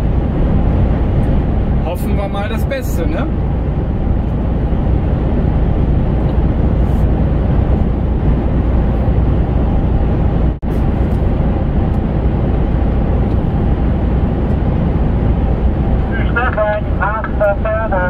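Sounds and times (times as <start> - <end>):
truck engine and road noise: 0.0 - 18.0.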